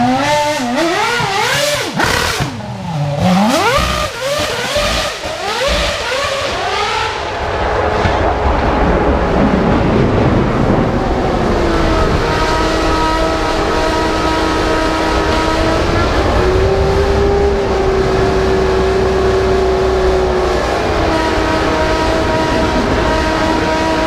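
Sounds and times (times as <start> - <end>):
car engine running loud: 0.0 - 24.0.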